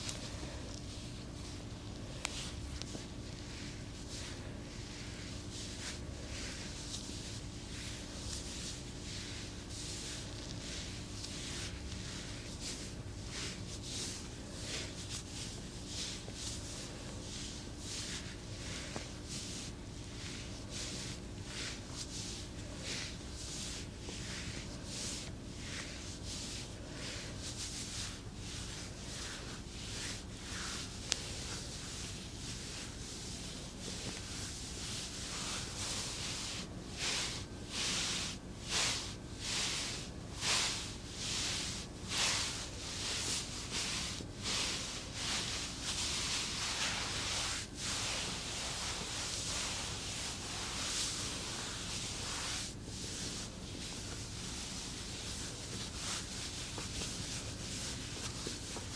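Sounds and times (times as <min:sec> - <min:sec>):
hands rubbing skin: 0:00.0 - 0:58.9.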